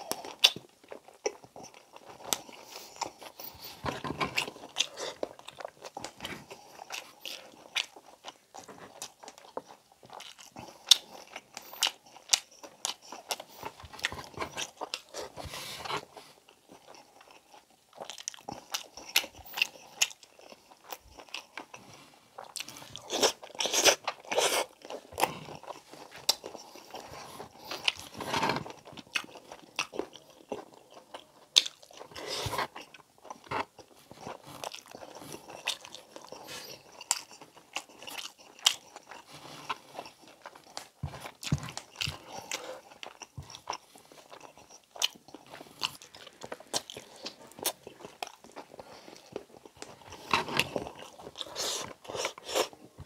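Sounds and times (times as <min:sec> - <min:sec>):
man chewing food: 0:00.0 - 0:53.0.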